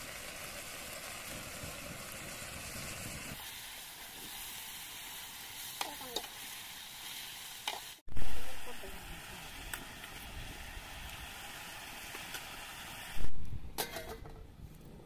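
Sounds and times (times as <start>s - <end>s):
chicken sizzling in hot oil: 0.0s - 13.3s.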